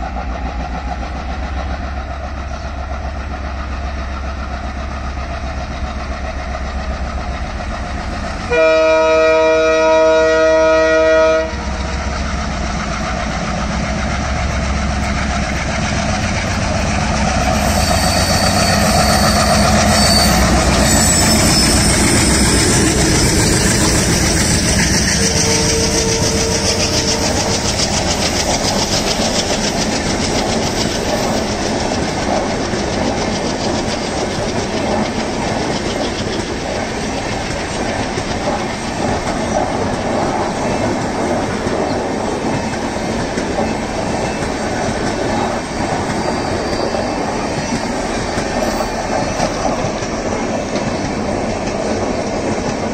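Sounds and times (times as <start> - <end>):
diesel locomotive engines: 0.0 - 52.9
train wheels clacking over rail joints: 0.0 - 52.9.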